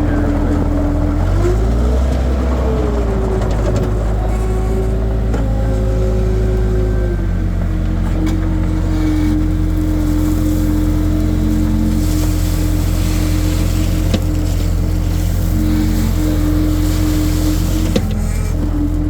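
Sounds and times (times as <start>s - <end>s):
skid steer engine droning: 0.0s - 19.0s.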